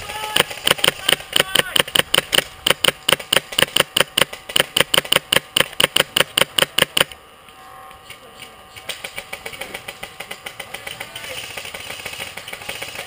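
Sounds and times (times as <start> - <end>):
airsoft rifle rapid firing: 0.0 - 7.1, 8.8 - 13.0.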